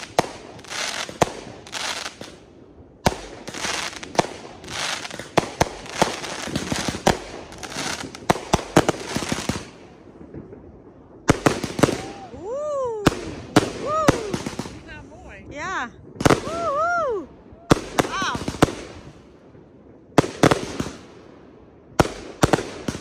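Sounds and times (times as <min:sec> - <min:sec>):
fireworks bangs: 0:00.0 - 0:23.0
fireworks crackling: 0:00.0 - 0:23.0.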